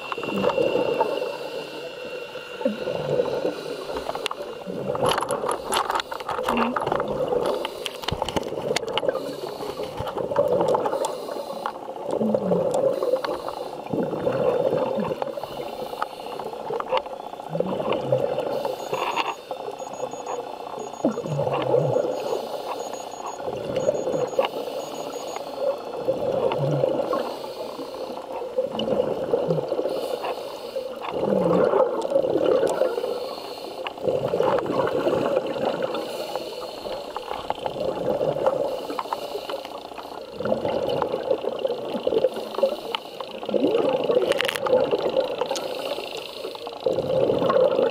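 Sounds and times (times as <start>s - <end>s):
diver breathing underwater bubbles: 0.0s - 47.9s.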